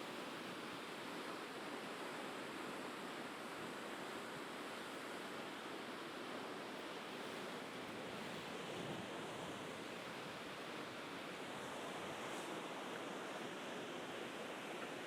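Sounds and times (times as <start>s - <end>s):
sea waves washing on shore: 1.6s - 15.0s.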